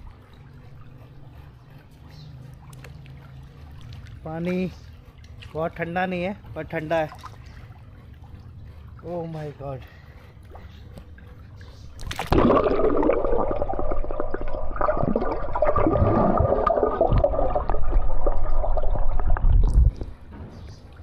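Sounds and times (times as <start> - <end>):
water churning and gurgling: 0.0 - 21.0.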